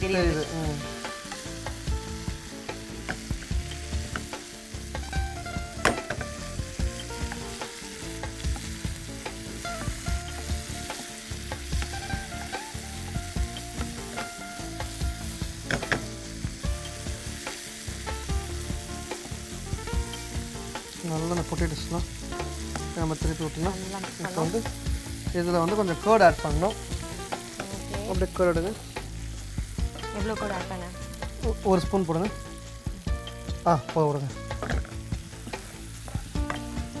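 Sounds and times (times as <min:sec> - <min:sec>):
oil sizzling: 0:00.0 - 0:37.0.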